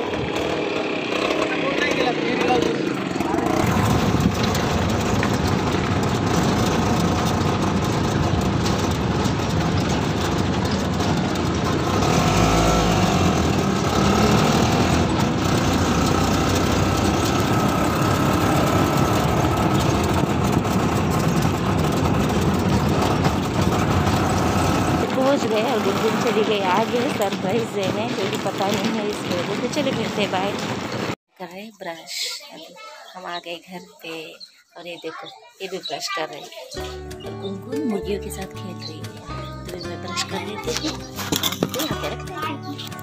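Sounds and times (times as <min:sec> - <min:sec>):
auto-rickshaw engine running: 0:00.0 - 0:31.7, 0:35.7 - 0:43.0
road noise: 0:00.0 - 0:43.0.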